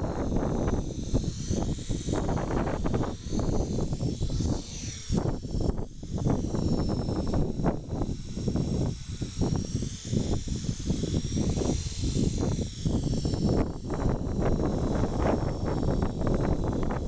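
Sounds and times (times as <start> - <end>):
rc helicopter whine: 0.0 - 17.0
wind rumble on microphone: 0.0 - 17.0.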